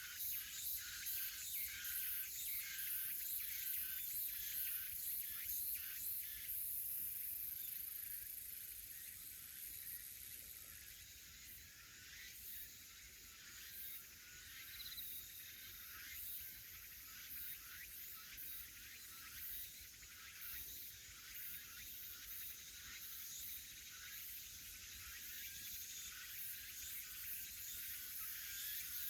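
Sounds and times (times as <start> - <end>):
cicadas and insects shrilling: 0.1 - 29.0.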